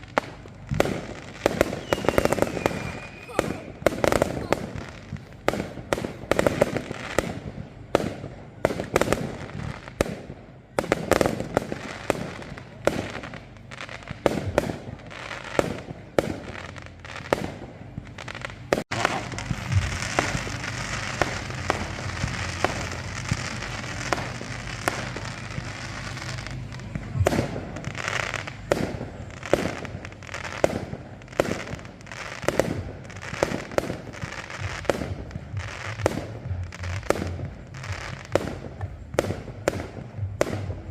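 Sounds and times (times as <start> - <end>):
fireworks bangs and crackle: 0.0 - 40.9.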